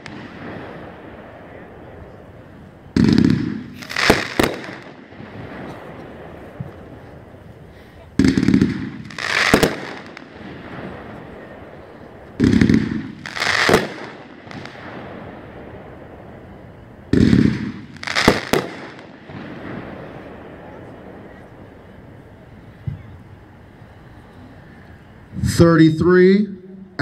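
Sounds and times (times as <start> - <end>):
fireworks cracking bursts: 0.0 - 25.9.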